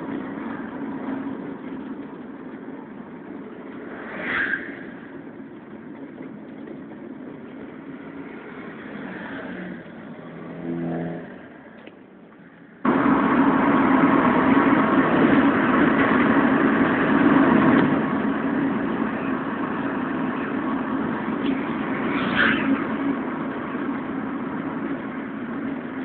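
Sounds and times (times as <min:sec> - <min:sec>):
rush of road and wind noise: 0:00.0 - 0:26.0
van engine and road noise: 0:00.0 - 0:26.0.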